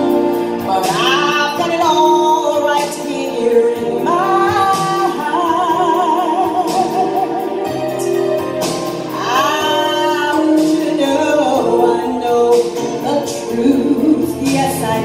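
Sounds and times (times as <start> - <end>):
woman singing: 0.0 - 8.3, 9.1 - 15.0
instrumental accompaniment: 0.0 - 15.0.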